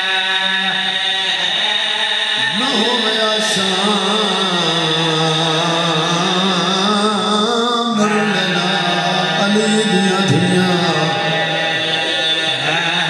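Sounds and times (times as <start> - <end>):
man chanting through a microphone: 0.0 - 13.0.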